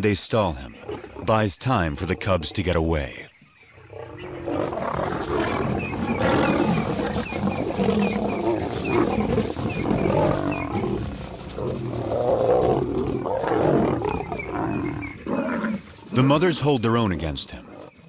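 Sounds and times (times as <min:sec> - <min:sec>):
lions snarling and roaring: 0:00.6 - 0:01.4, 0:03.8 - 0:18.0.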